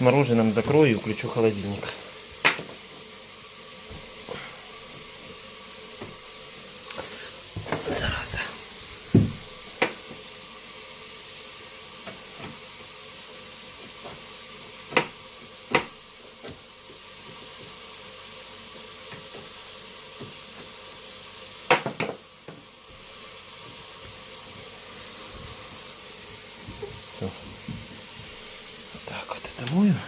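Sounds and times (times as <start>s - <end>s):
water running in a sink: 0.0s - 30.0s.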